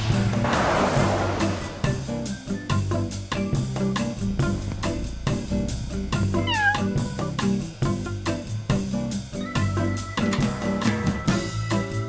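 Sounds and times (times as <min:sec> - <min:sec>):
upbeat guitar music with beat: 0:01.8 - 0:12.0.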